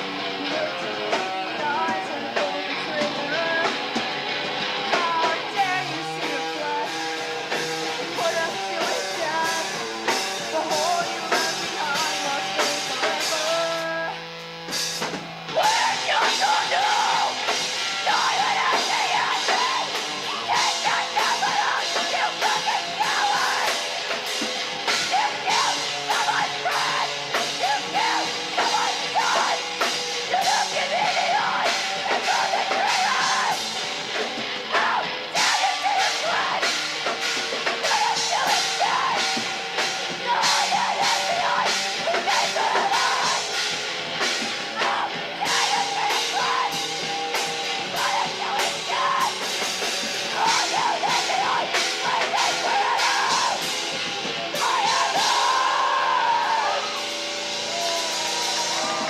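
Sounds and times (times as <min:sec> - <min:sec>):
drum kit: 0:00.0 - 0:59.0
live rock band playing: 0:00.0 - 0:59.0
vocals: 0:00.0 - 0:59.0.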